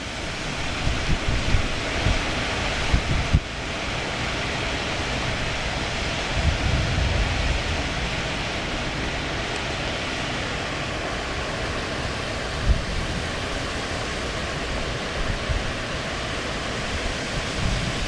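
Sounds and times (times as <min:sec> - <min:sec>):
gusty wind through leaves: 0:00.0 - 0:18.0.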